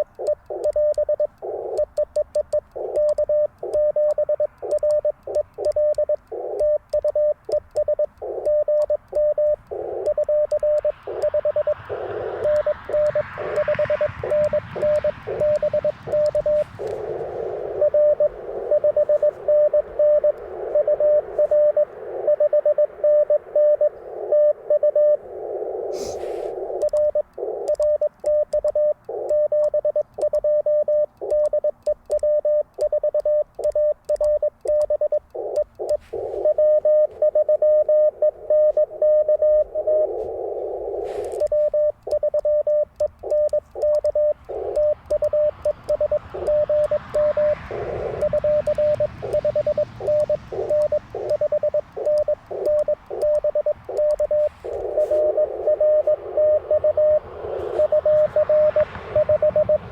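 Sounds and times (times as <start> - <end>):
morse code tone: 0.0 - 59.9
receiver hiss: 0.0 - 59.9
sharp clicks: 0.0 - 59.9.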